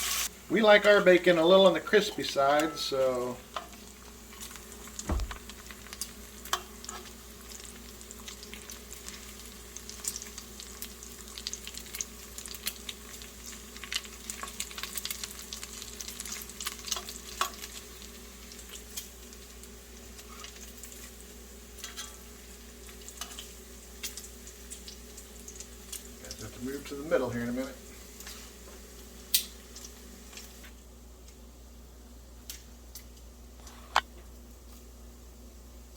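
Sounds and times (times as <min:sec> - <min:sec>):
bacon sizzling in a skillet: 0:00.0 - 0:30.8
grease crackling and popping: 0:00.5 - 0:28.4, 0:29.0 - 0:31.4.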